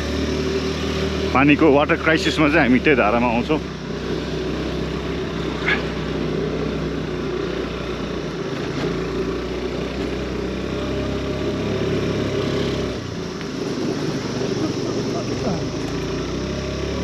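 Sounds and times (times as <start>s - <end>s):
road noise: 0.0s - 17.0s
scooter engine running: 0.0s - 17.0s.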